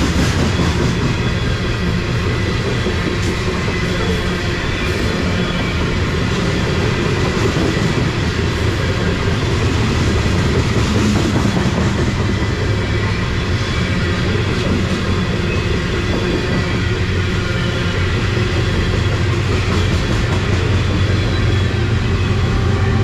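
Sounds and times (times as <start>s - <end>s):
train wheels clattering on rails: 0.0s - 23.0s.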